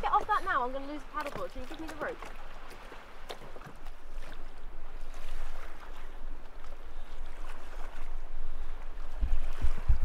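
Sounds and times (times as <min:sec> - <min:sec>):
water splashing against hull: 0:00.0 - 0:10.0.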